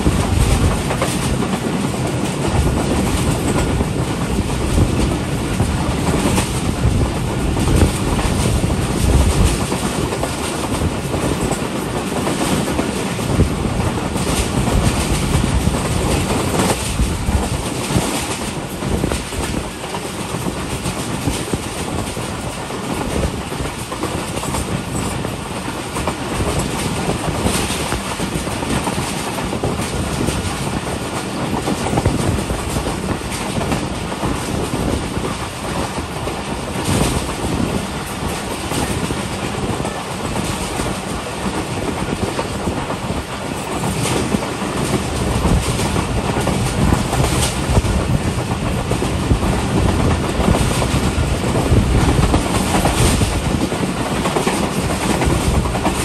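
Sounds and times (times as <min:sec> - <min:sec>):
train rolling rumble: 0:00.0 - 0:56.0.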